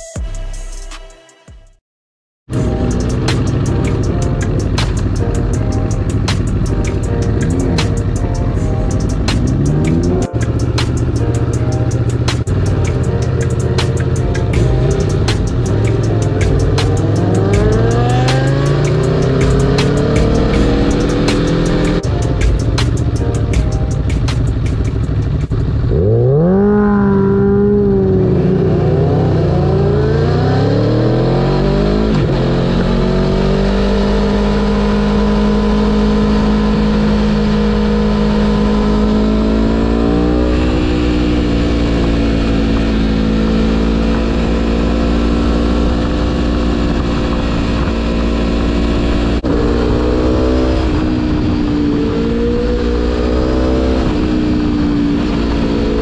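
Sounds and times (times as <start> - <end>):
motorcycle engine accelerating: 2.5 - 56.0.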